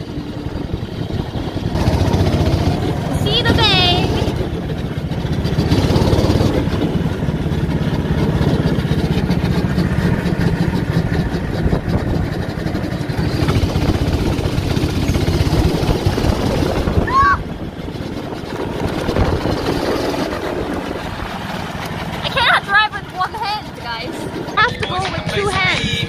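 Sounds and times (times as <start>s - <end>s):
go-kart engine running: 0.0s - 26.0s.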